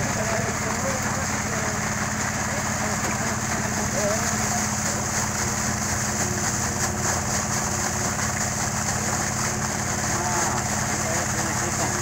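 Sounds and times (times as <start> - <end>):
engine running steadily: 0.0 - 12.0
water gushing from a pipe: 0.0 - 12.0
water splashing into grass: 0.0 - 12.0.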